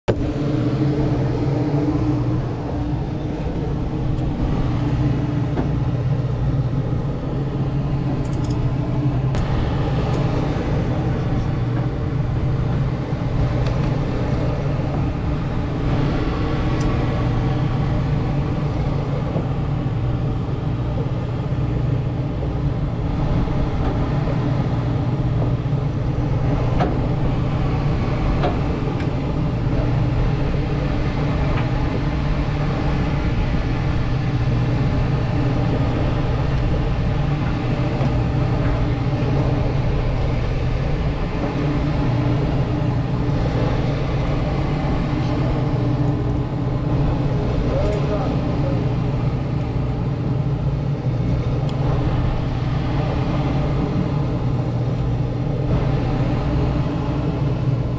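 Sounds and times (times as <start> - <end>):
boat engine drone: 0.0 - 57.9.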